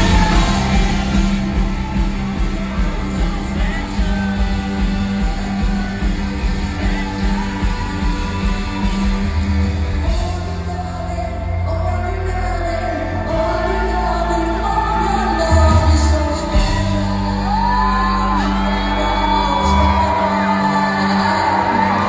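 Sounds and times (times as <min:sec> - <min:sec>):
bass line: 0:00.0 - 0:22.0
lead vocal singing: 0:00.0 - 0:22.0
rock band playing: 0:00.0 - 0:22.0.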